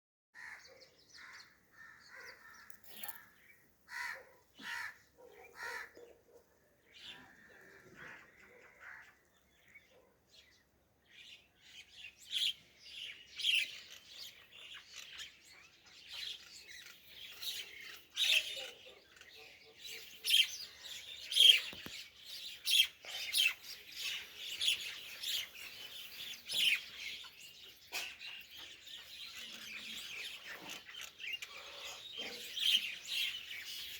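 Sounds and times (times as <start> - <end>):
birds chirping: 0.4 - 33.9.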